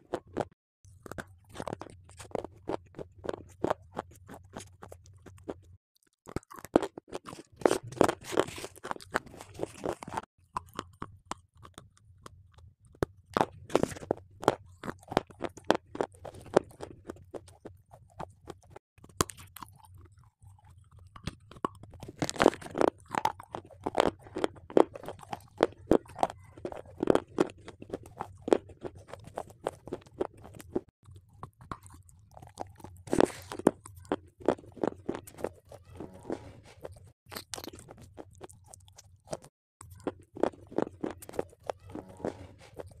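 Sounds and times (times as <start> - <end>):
crunching and chewing: 0.0 - 43.0.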